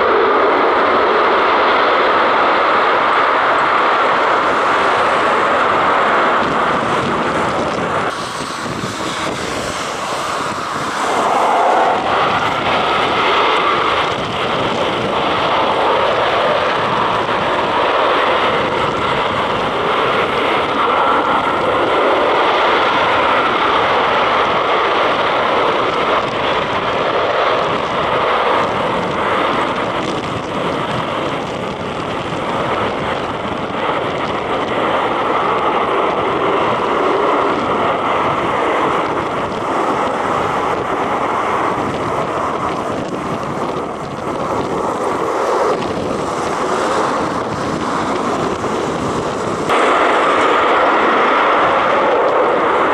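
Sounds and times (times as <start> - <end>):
military aircraft engines roaring: 0.0 - 52.9
wind buffeting microphone: 0.0 - 52.9.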